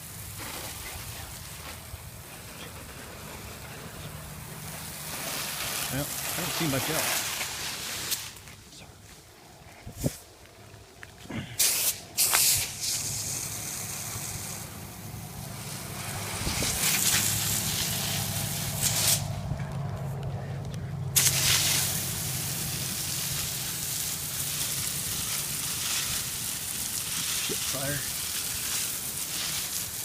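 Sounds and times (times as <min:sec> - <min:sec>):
hose nozzle spraying water: 0:00.0 - 0:08.4, 0:11.6 - 0:19.4, 0:21.2 - 0:30.0.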